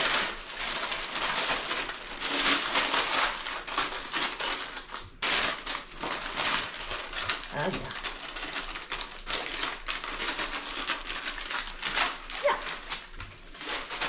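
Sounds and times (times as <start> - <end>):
parchment paper crinkling: 0.0 - 14.0.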